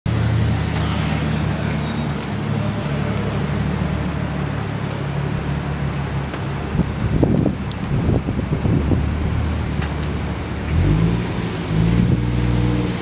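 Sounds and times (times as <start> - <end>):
car engine idling: 0.1 - 12.8.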